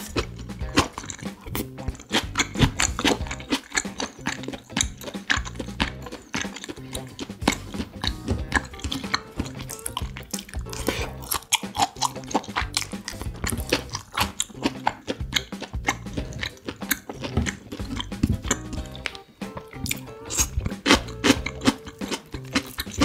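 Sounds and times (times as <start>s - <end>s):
background music: 0.0s - 23.0s
person chewing with wet mouth sounds: 0.0s - 23.0s.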